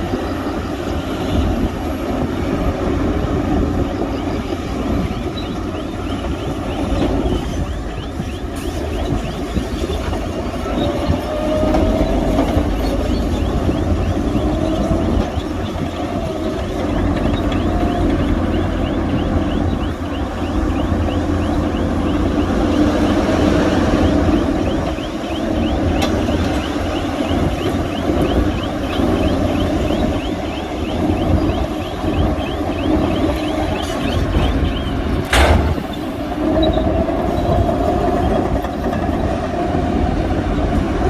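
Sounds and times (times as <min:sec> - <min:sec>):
heavy machinery engine rumble: 0:00.0 - 0:41.0.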